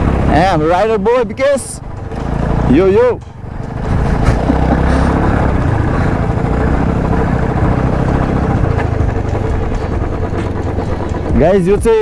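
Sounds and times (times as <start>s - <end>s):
motorcycle engine running: 0.0s - 12.0s
road and air noise: 0.0s - 12.0s.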